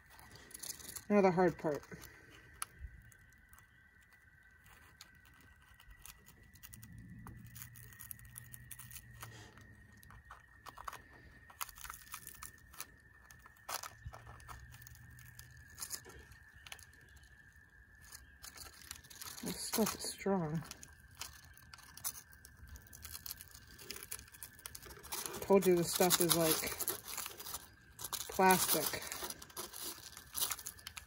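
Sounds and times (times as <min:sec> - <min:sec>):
cocoon silk crackling and tearing: 0:00.0 - 0:31.0.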